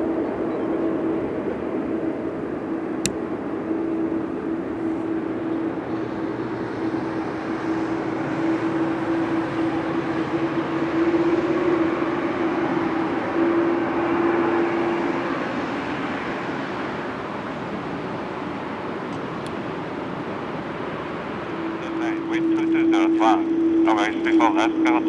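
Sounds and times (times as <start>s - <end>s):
jet engines roaring: 1.2s - 25.0s.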